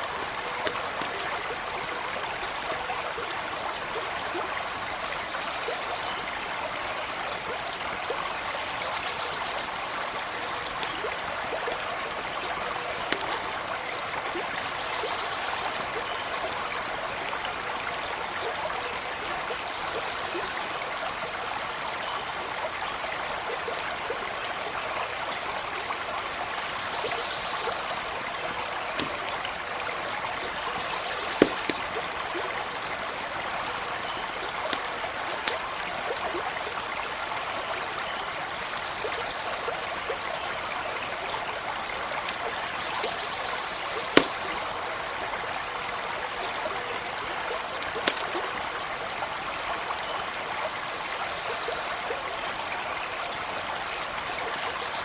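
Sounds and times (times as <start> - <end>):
campfire pops and crackles: 0.0 - 21.4, 23.4 - 40.3, 41.0 - 48.8
stream of running water: 0.0 - 55.0.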